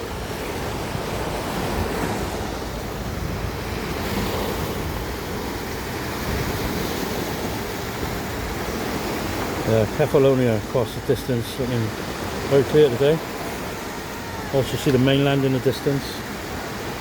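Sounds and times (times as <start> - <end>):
sea waves washing onto beach: 0.0 - 17.0
wind blowing across microphone: 0.0 - 17.0.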